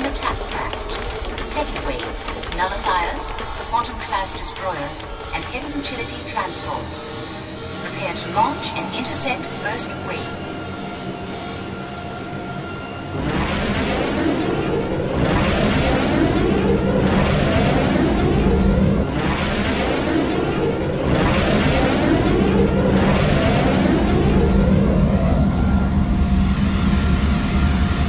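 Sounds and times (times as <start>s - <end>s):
jet-like rushing roar: 0.0s - 28.0s.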